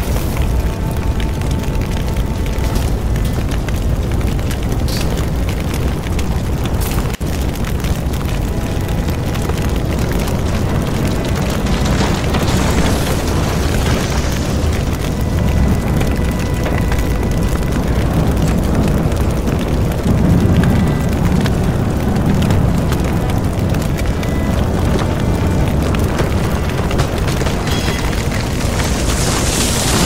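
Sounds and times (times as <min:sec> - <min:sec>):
deep rumble of fire: 0:00.0 - 0:30.0
fire crackling: 0:00.0 - 0:30.0.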